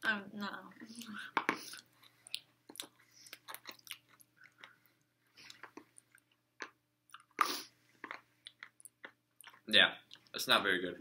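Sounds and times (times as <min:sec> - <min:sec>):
people chewing: 0:00.9 - 0:10.3.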